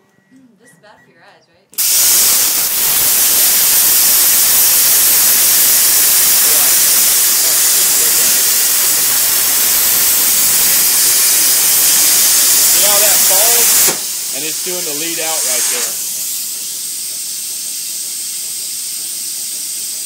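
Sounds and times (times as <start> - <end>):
plasma arc hissing: 1.8 - 20.0.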